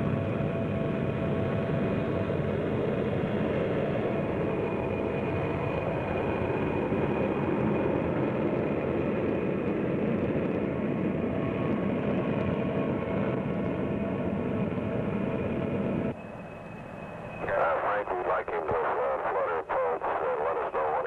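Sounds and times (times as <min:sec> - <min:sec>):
jet engines rushing with high whine: 0:00.0 - 0:21.0.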